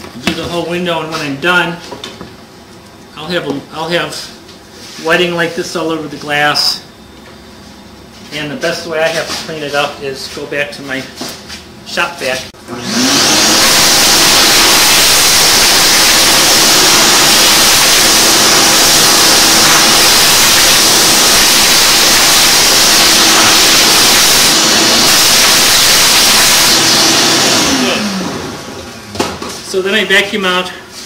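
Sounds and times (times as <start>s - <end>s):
shop vac running: 0.0s - 31.0s.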